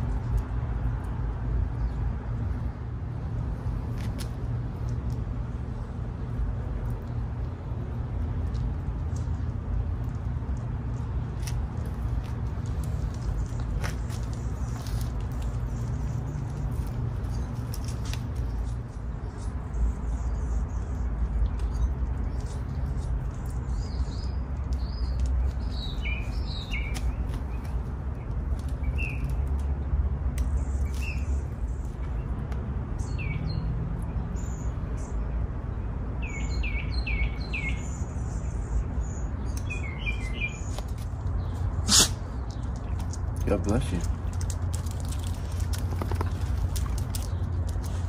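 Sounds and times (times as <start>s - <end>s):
small birds chirping: 4.8s - 48.0s.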